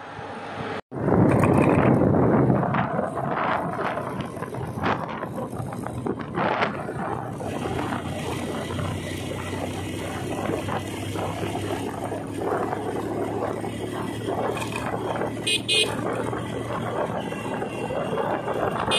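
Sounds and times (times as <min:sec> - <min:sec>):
wind rushing over microphone: 0:00.0 - 0:18.9
motorcycle running: 0:00.9 - 0:18.9.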